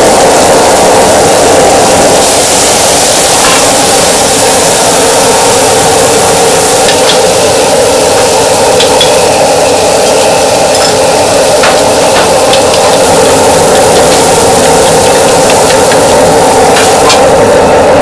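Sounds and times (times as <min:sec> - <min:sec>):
gas burner rushing: 0:00.0 - 0:18.0
liquid boiling and bubbling: 0:00.0 - 0:18.0.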